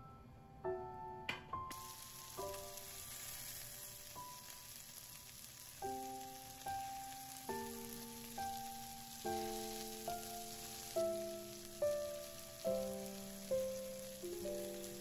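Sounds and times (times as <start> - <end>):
meat sizzling in frying pan: 1.7 - 15.0.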